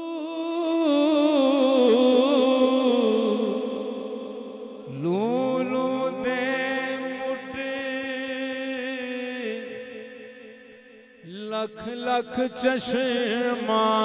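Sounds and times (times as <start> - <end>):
man singing long vocal note: 0.0 - 10.6, 11.2 - 14.0.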